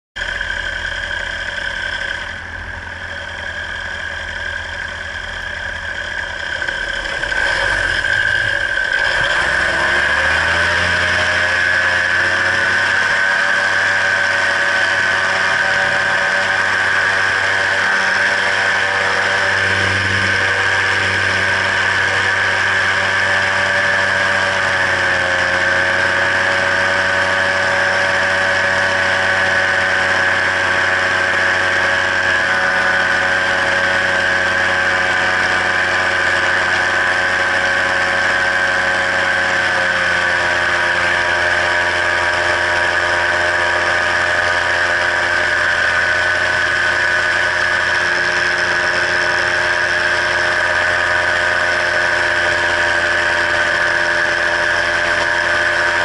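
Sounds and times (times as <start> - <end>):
paramotor engine and propeller drone: 0.2 - 56.0.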